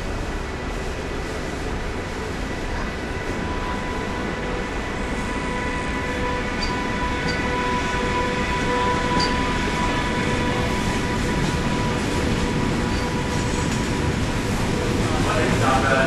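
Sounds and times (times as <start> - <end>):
high locomotive whine: 0.0 - 16.0
train wheels rumbling on rails: 0.0 - 16.0.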